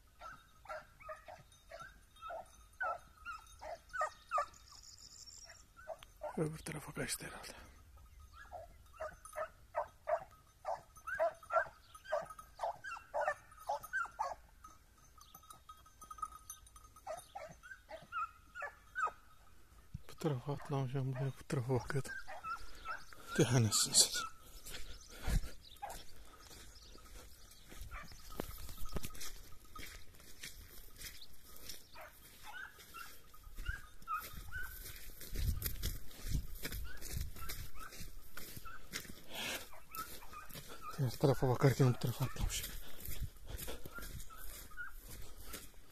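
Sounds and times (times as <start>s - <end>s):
hounds yelping and baying: 0.0s - 45.9s.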